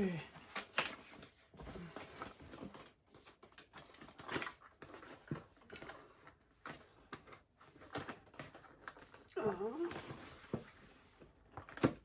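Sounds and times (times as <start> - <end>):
packaging rustling and scraping: 0.4 - 12.0.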